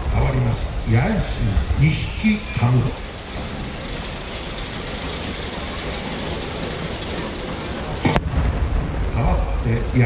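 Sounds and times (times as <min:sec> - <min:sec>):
outdoor crowd rumble: 0:00.0 - 0:10.0.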